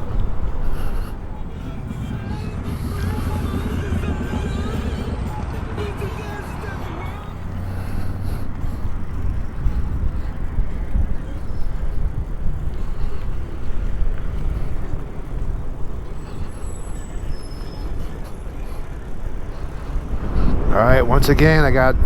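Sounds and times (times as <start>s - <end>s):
road rumble: 0.0s - 22.0s
wind buffeting microphone: 0.0s - 22.0s.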